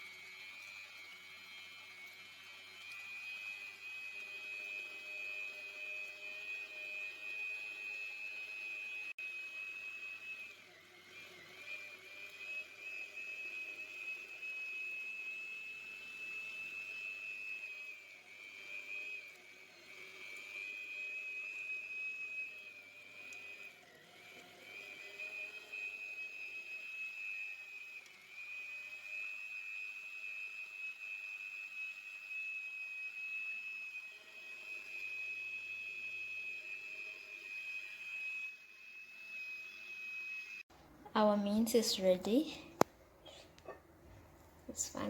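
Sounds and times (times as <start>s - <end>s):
meat grinder motor whining: 0.0s - 45.0s.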